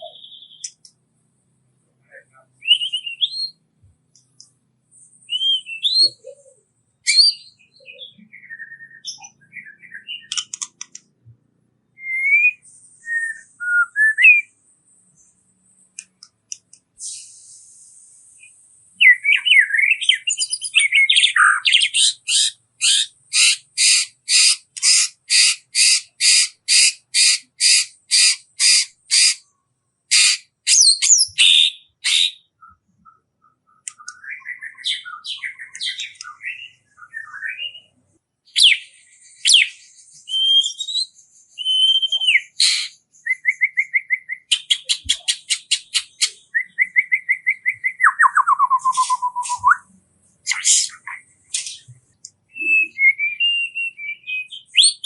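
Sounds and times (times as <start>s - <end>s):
songbirds calling: 0.0s - 55.0s.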